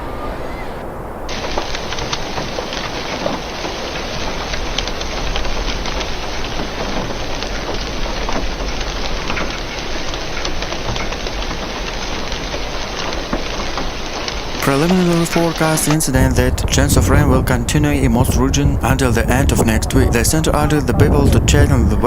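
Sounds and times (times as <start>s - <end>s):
heavy rain on hard surface: 0.0s - 22.0s.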